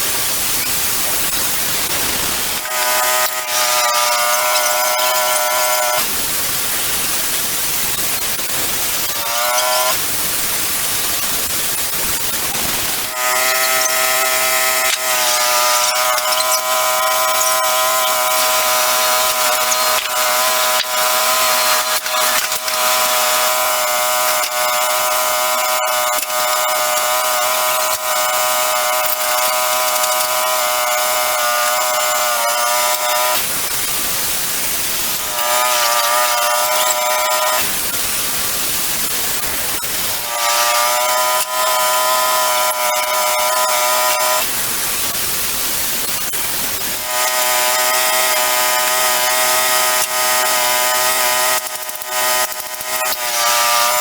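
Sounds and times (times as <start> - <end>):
band saw whining: 0.0 - 45.2, 45.9 - 54.0
sawmill hiss: 0.0 - 54.0.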